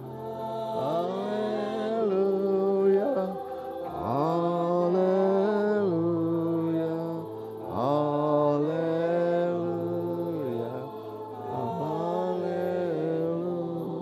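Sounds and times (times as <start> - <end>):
man chanting slowly: 0.0 - 14.0.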